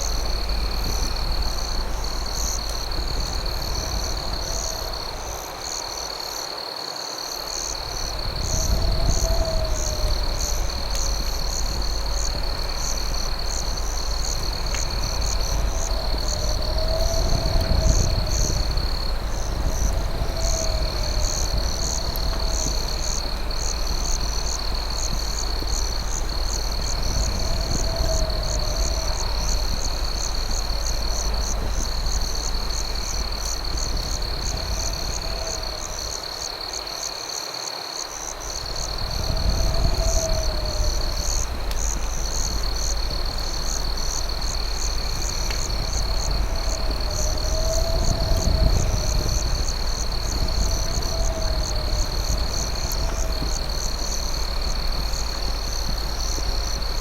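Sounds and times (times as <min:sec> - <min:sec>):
low rumble: 0:00.0 - 0:05.9, 0:07.8 - 0:36.4, 0:38.6 - 0:57.0
crickets and insects trilling: 0:00.0 - 0:57.0.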